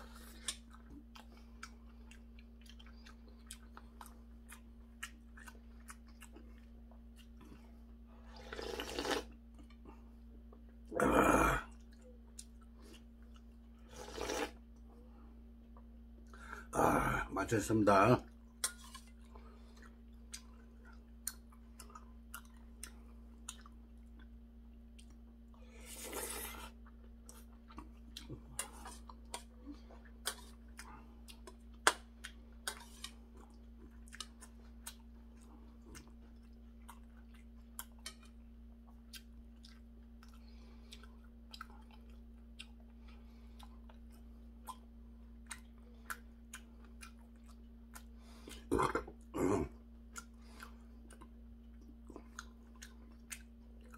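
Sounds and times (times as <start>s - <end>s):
person chewing: 0.0s - 15.0s, 18.2s - 53.9s
low steady hum: 0.0s - 53.9s.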